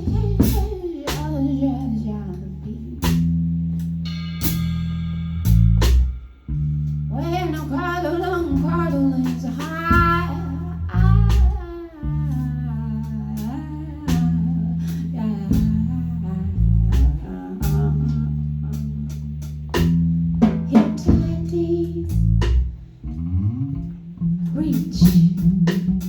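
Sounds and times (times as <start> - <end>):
bass notes: 0.0 - 26.0.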